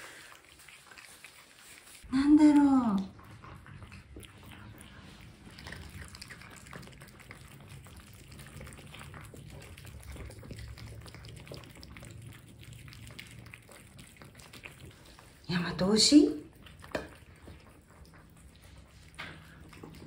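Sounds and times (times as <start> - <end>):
cats chewing and licking: 0.0 - 20.0.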